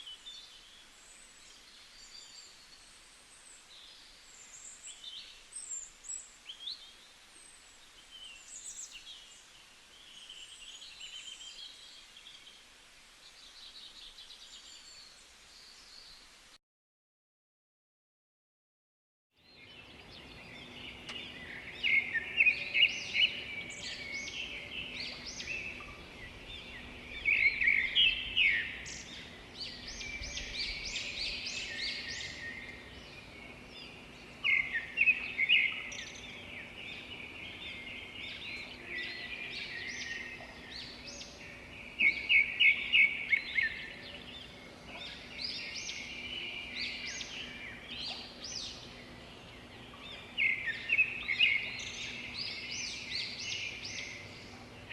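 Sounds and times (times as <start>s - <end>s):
birds chirping and trilling: 0.0s - 16.5s, 19.4s - 54.9s.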